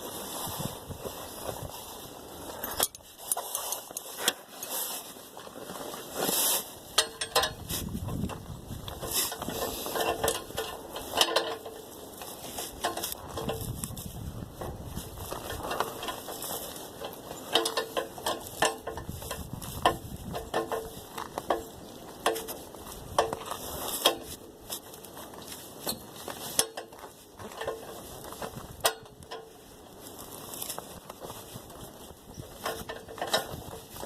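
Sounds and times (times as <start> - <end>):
hand tools clinking against metal: 2.5 - 14.1, 15.2 - 34.0.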